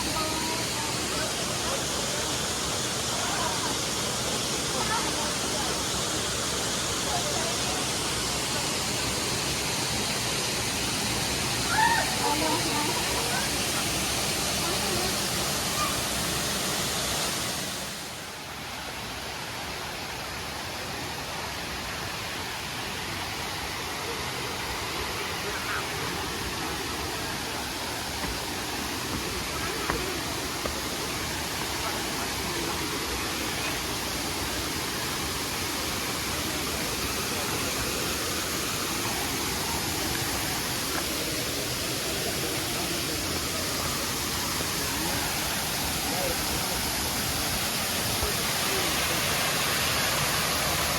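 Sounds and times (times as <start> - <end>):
faint voices: 0.0 - 17.0, 23.1 - 50.9
waterfall rushing: 0.0 - 50.9.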